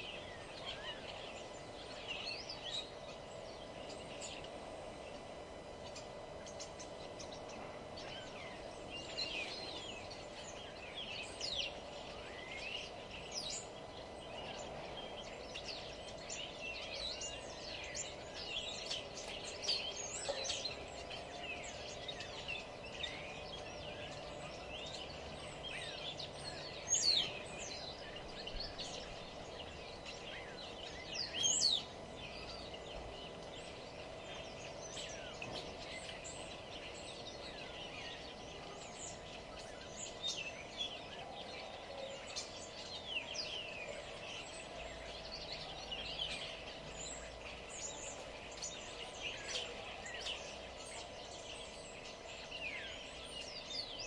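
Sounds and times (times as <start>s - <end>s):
loud bird calls: 0.0s - 54.0s
songbirds chirping: 0.0s - 54.0s
steady background hum: 0.0s - 54.0s.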